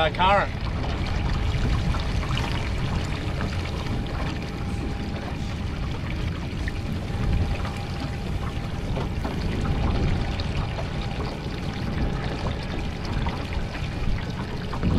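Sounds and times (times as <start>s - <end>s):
water sloshing against boat hull: 0.0s - 14.9s
wind rumble on microphone: 0.0s - 14.9s.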